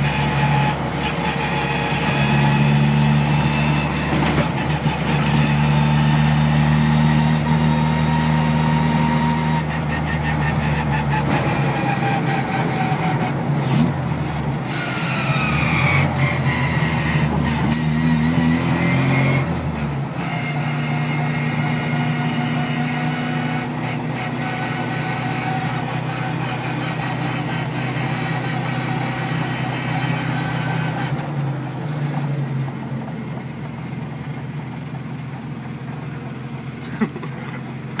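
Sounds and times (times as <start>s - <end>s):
car engine running: 0.0s - 38.0s
high gear whine: 0.0s - 38.0s.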